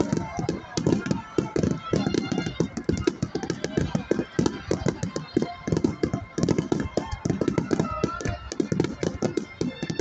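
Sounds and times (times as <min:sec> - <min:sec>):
crowd talking: 0:00.0 - 0:10.0.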